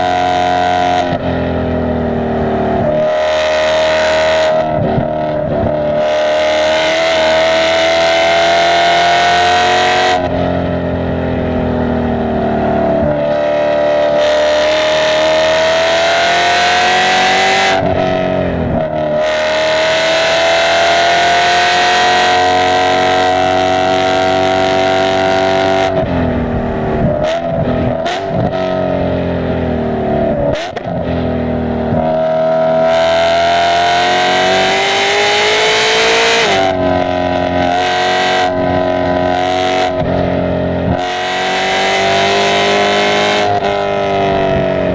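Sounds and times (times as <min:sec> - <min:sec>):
car engine revving hard: 0:00.0 - 0:44.9.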